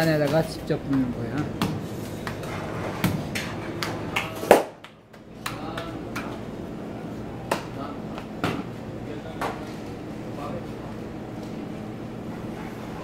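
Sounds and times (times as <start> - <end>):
kitchen hum: 0.0 - 13.0.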